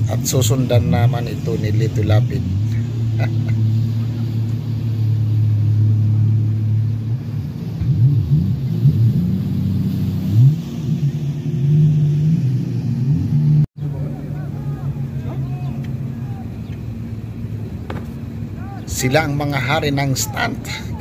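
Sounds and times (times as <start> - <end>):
jet ski and boat engines revving: 0.0 - 21.0.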